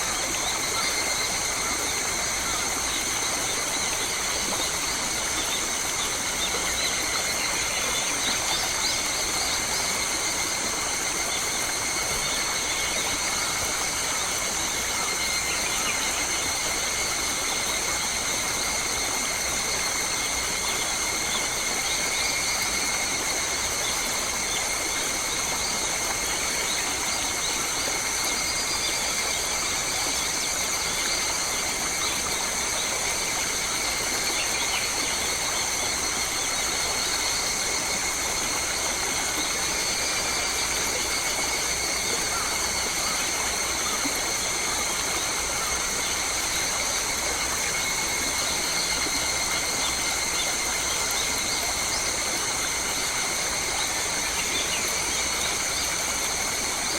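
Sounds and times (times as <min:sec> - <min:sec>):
insect drone: 0:00.0 - 0:56.9.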